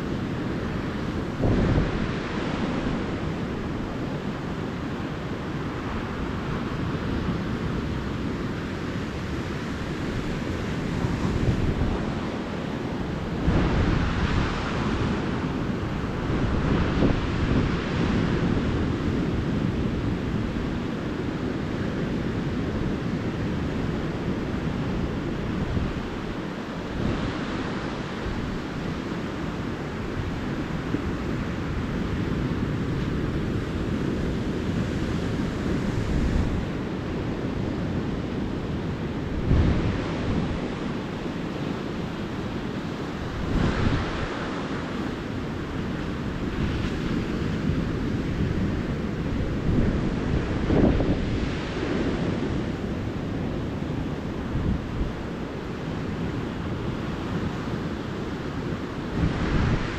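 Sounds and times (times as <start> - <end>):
ocean surf breaking: 0.0 - 59.9
wind on microphone: 0.0 - 59.9.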